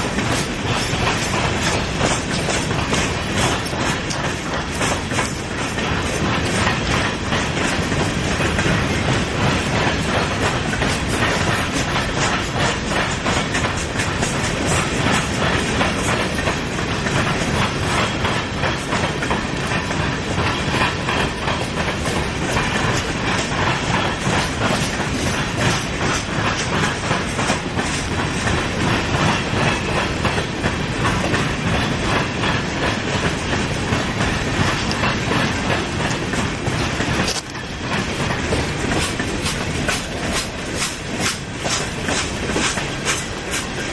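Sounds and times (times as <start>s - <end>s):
train rumble: 0.0s - 43.9s
train wheels clicking over rail joints: 0.0s - 43.9s.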